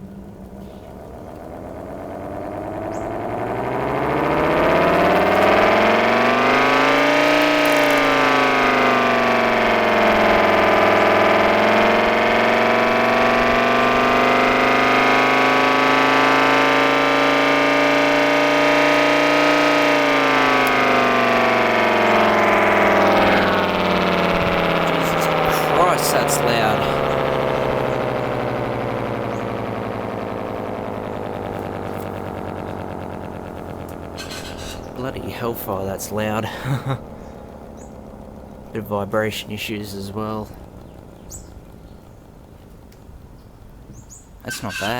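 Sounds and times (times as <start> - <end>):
electric air raid siren wailing: 0.0 - 44.9.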